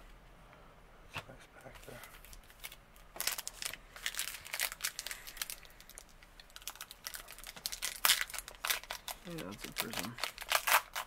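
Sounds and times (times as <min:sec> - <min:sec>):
foil wrapper crinkling: 0:01.7 - 0:11.0.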